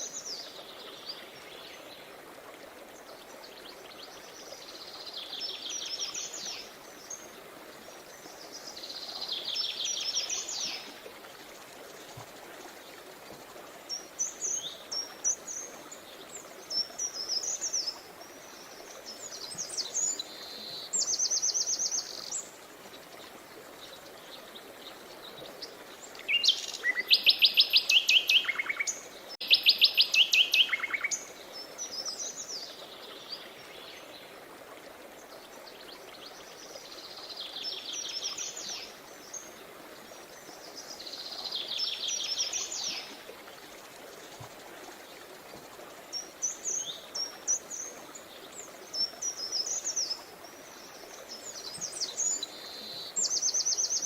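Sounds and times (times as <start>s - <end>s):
songbirds singing: 2.9s - 34.4s, 35.2s - 54.0s.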